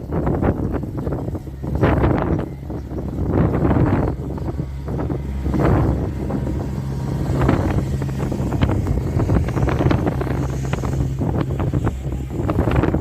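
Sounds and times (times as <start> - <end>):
low hum: 0.0 - 13.0
wind gusting against microphone: 0.0 - 13.0.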